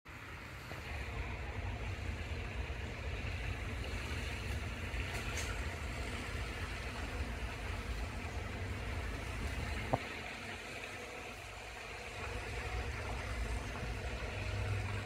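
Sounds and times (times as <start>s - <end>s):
low rumble and hiss: 0.1s - 15.0s.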